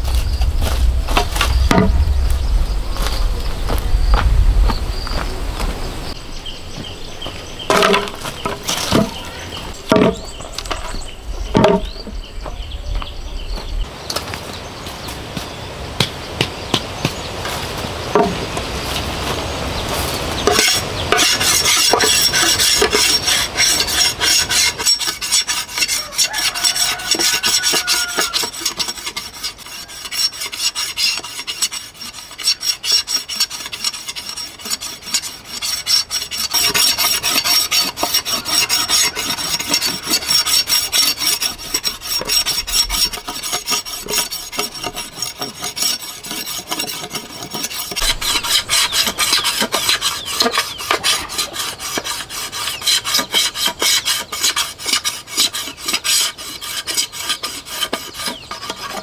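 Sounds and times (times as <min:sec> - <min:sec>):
knife scraping bamboo: 0:00.0 - 0:02.1, 0:07.7 - 0:12.0, 0:17.5 - 0:59.0.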